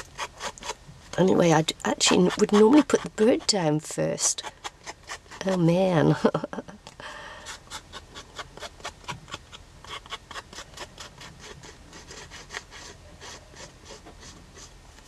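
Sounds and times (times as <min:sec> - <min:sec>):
scratchy coloring strokes on card: 0:00.0 - 0:06.1, 0:07.5 - 0:14.8.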